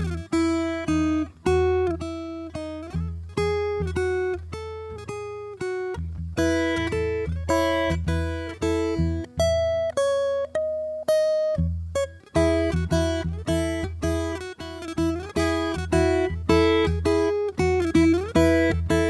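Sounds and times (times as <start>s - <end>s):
acoustic guitar playing gently: 0.0s - 19.0s.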